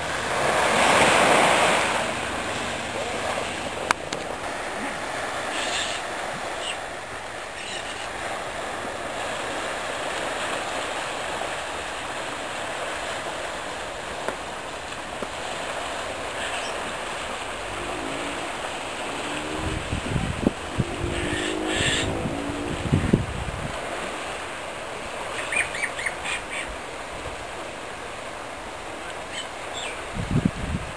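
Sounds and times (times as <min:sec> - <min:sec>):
small waves breaking on sand: 0:00.0 - 0:30.9.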